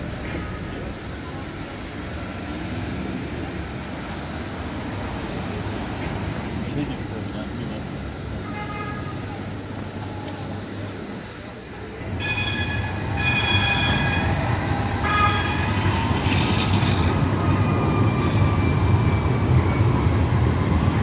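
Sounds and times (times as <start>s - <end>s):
tram rumbling on rails: 0.0s - 21.0s
tram warning tones: 0.0s - 21.0s.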